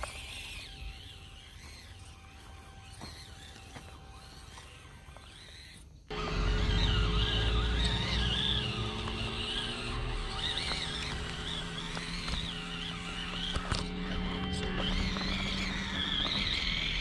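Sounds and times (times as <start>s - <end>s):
toy truck motor whining: 0.0s - 17.0s.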